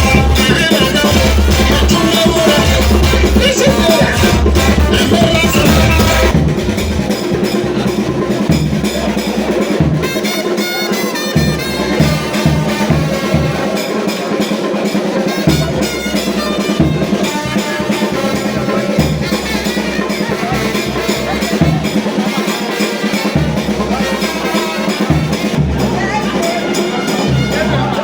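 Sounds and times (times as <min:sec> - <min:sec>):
music with drum beat and bass: 0:00.0 - 0:28.0.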